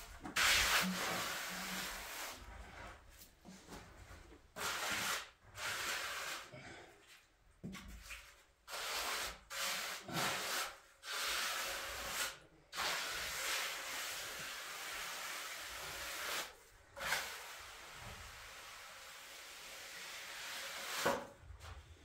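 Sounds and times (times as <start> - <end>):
trowel scraping cement floor: 0.0 - 21.9.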